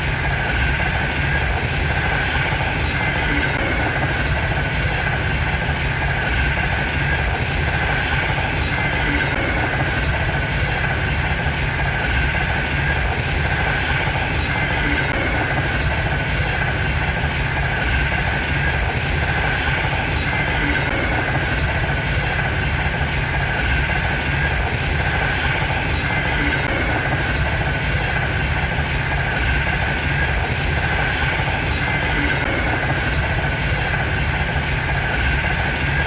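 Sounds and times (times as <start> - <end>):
high-speed train rumbling: 0.0 - 36.0.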